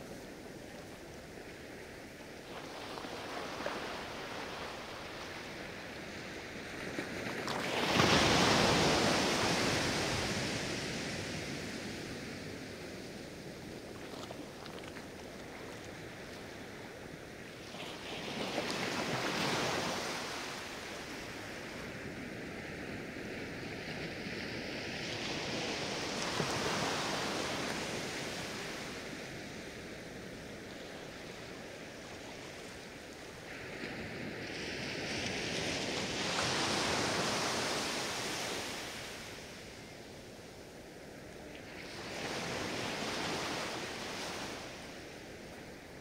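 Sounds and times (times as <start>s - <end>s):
waves breaking on beach: 0.0s - 46.0s.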